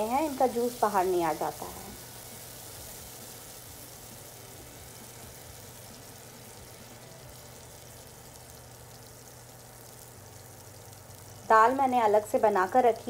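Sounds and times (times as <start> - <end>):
vegetables sizzling in a frying pan: 0.0 - 13.0.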